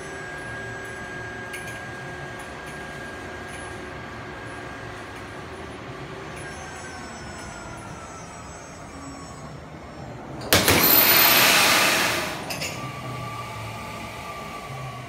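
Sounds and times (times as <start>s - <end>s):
zip line trolley on cable: 0.0s - 15.0s.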